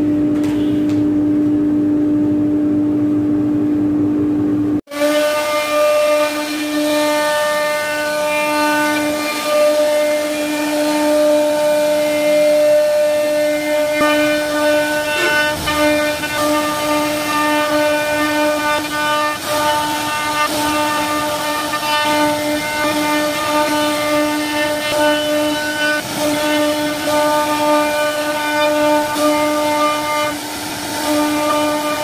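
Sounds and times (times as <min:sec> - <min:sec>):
router spindle whining: 0:05.0 - 0:32.0
wood being milled: 0:05.0 - 0:32.0.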